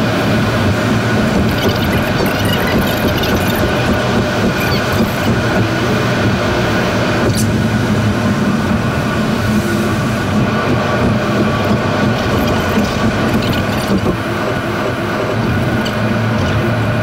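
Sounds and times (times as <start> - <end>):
car road noise drone: 0.0 - 17.0.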